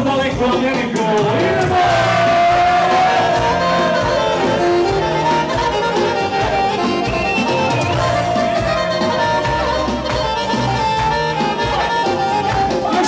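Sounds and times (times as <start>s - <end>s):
accordion-led folk music: 0.0s - 13.0s.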